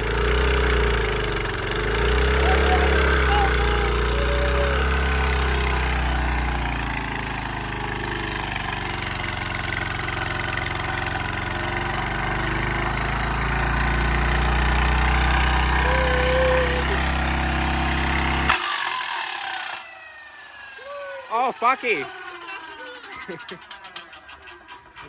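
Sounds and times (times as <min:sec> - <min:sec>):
pressure washer engine running: 0:00.0 - 0:24.3.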